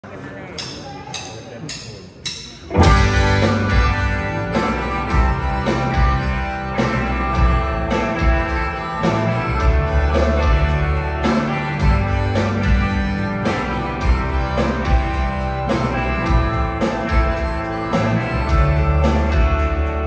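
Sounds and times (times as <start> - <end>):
bass: 0.0 - 20.0
steady drum beat: 0.6 - 20.0
rock band playing: 2.6 - 20.0
strummed guitar: 2.7 - 20.0.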